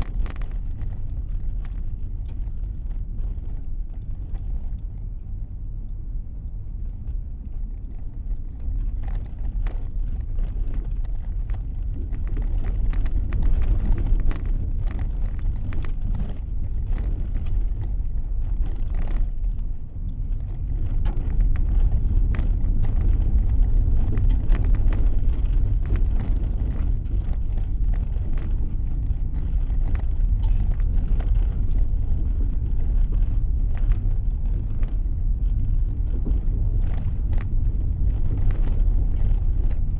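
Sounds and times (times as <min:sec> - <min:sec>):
sharp ticks and clicks: 0:00.0 - 0:39.9
tyre and engine rumble: 0:00.0 - 0:39.9.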